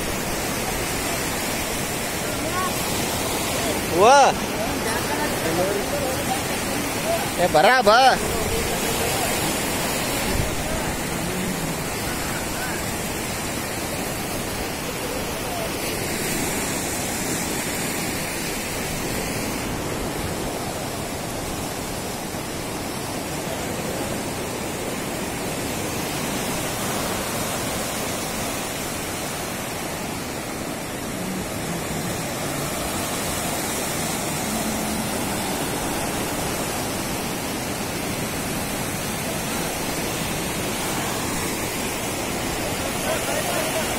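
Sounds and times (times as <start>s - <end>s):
flooded river rushing: 0.0s - 43.9s.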